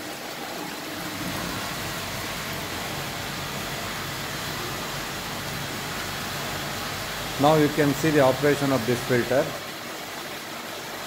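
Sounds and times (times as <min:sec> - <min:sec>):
water rushing through pipes: 0:00.0 - 0:11.0.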